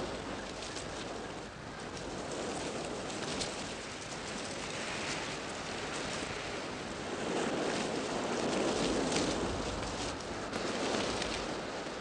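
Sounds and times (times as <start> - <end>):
wind rustling leaves in bushes: 0.0 - 12.0.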